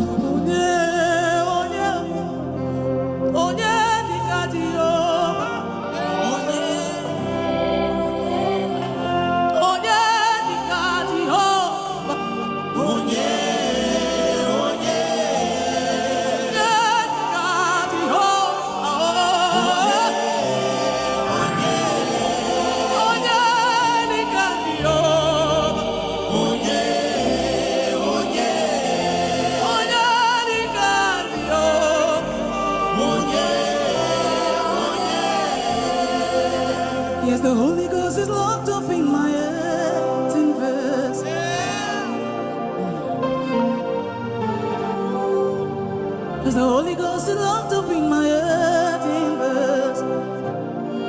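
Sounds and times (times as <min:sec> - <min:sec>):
gospel singing with vibrato: 0:00.0 - 0:51.0
sustained held chords: 0:02.1 - 0:51.0.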